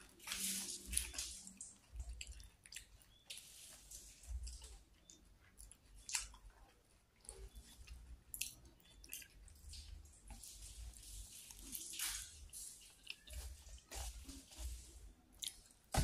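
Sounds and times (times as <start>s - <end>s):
soft wet chewing: 0.0s - 16.0s.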